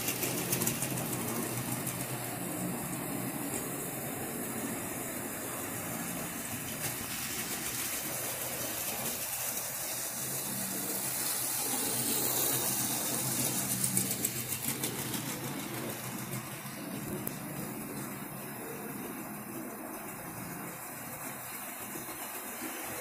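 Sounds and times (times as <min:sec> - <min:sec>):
model train motor hum: 0:00.0 - 0:23.0.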